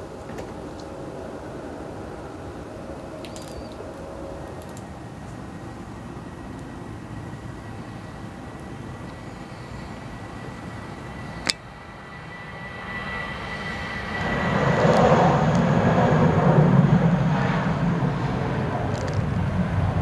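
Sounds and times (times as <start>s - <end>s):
distant engine drone: 0.0s - 20.0s.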